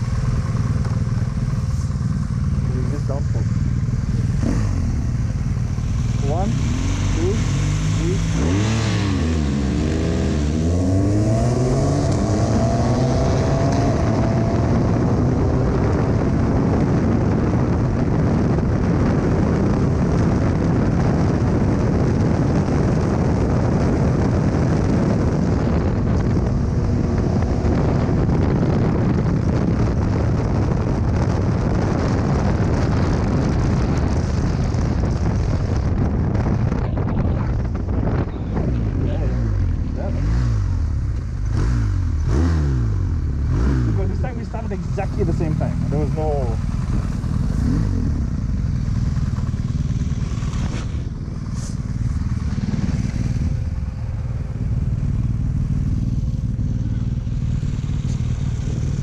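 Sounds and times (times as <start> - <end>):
motorcycle engine accelerating: 0.0 - 59.0
wind rushing at speed: 0.0 - 59.0.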